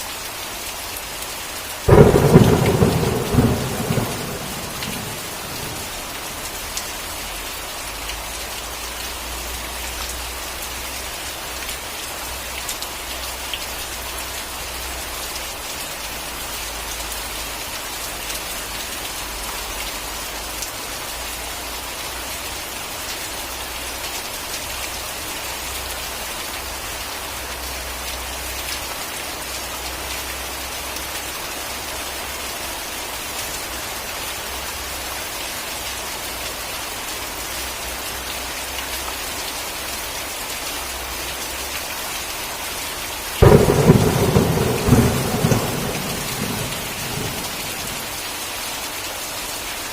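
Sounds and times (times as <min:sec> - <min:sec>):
steady rain hiss: 0:00.0 - 0:49.9.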